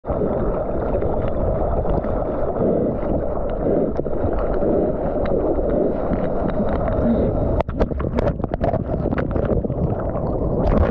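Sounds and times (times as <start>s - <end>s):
sea water rushing and splashing: 0.0s - 10.9s.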